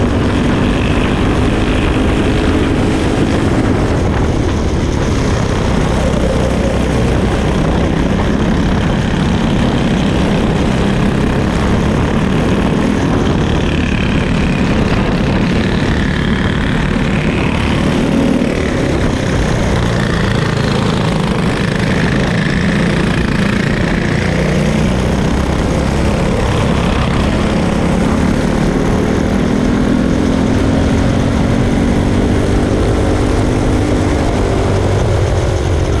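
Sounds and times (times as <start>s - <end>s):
kart engine racing: 0.0s - 36.0s
rush of wind noise: 0.0s - 36.0s.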